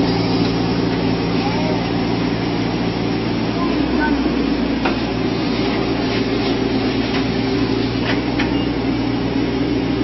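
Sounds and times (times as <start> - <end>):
diesel engine under hydraulic load: 0.0 - 10.0.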